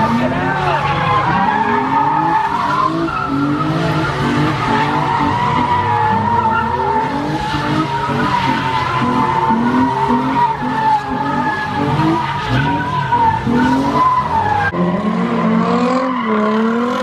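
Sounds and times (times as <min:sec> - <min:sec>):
car engine revving: 0:00.0 - 0:17.0
tire squealing: 0:00.0 - 0:17.0.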